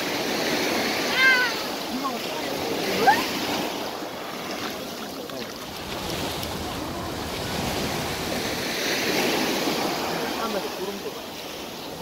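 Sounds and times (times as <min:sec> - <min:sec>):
sea surf washing onto beach: 0:00.0 - 0:12.0.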